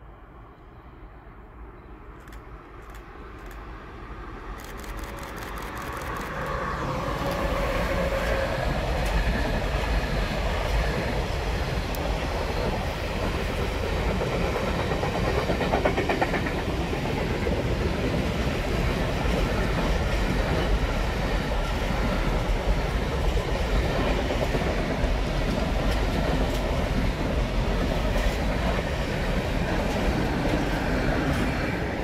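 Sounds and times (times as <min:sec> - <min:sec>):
freight train wheels on rails: 0:02.1 - 0:32.0.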